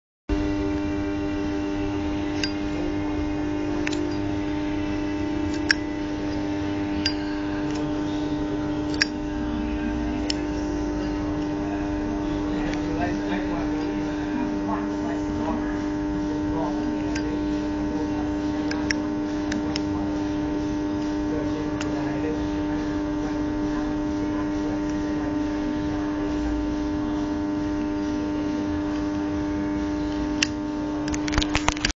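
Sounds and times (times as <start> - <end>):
steady hum: 0.3 - 32.0.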